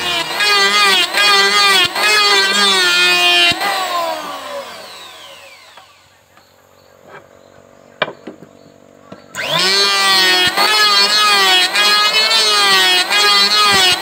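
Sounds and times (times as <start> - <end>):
electric planer whine: 0.0 - 14.0.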